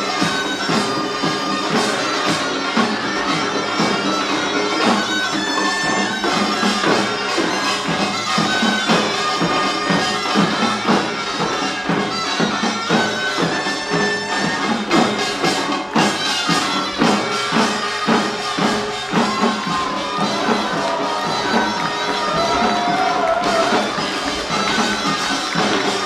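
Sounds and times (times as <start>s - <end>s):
driving drum and gong strokes: 0.0s - 26.0s
nasal shawm melody: 0.0s - 26.0s.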